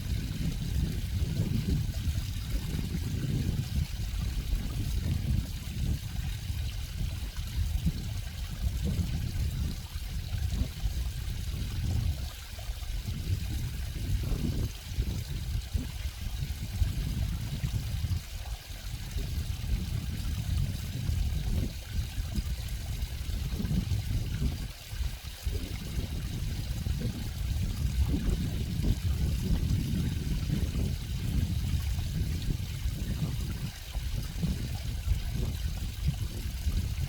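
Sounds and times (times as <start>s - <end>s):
running water flowing: 0.0s - 37.0s.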